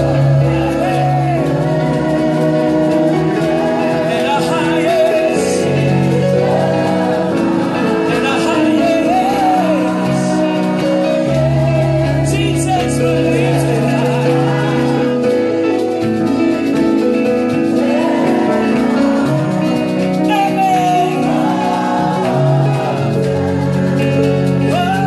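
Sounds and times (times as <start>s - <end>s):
man singing into a microphone: 0.0s - 15.6s, 17.6s - 25.0s
group singing along: 0.0s - 25.0s
instrumental chords: 0.0s - 25.0s.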